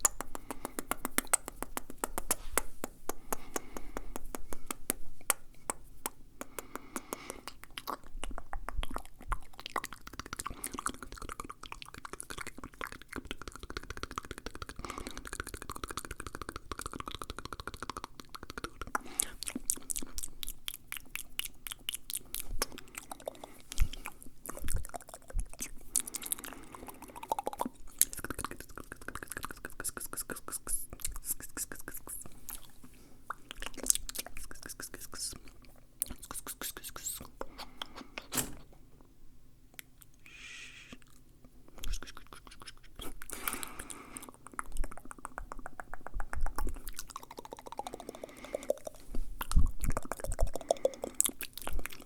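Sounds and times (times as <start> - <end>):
mouth pops: 0.0 - 32.7, 33.3 - 38.6, 39.8 - 52.0
tongue clicks and smacking: 0.0 - 38.7, 39.7 - 52.0.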